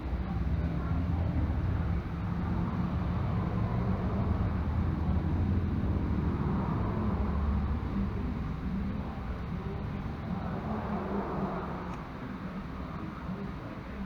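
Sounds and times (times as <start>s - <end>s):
gas burner roaring: 0.0s - 14.0s.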